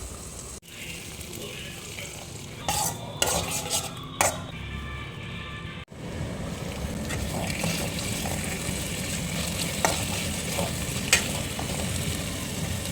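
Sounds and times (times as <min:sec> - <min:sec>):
food sizzling in a pan: 0:00.0 - 0:04.5, 0:06.5 - 0:12.9.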